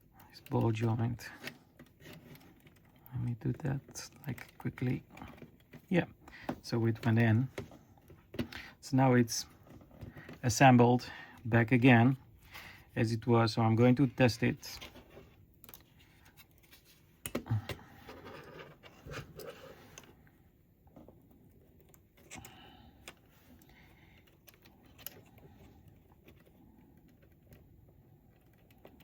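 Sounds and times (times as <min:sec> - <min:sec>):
hands handling plastic parts: 0:00.2 - 0:13.2, 0:13.8 - 0:29.0.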